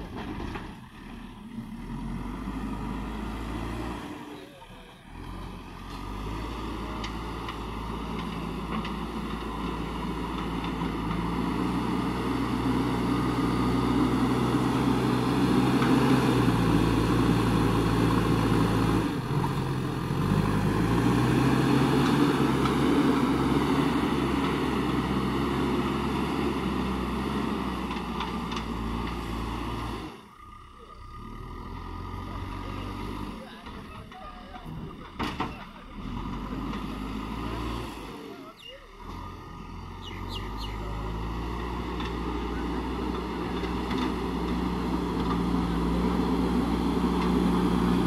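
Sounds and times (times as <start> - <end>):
backhoe diesel engine under load: 0.0 - 48.0.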